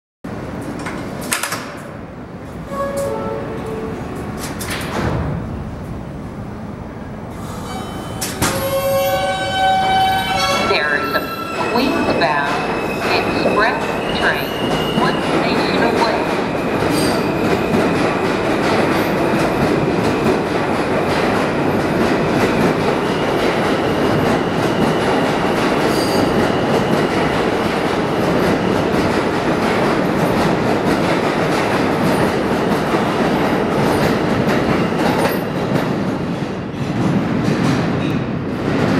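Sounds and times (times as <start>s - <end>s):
subway train rumbling past: 0.3s - 38.9s.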